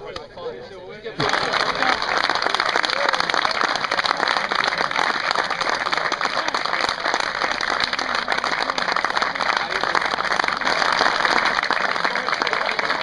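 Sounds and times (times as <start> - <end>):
voices: 0.0 - 13.0
crowd applauding: 1.2 - 13.0.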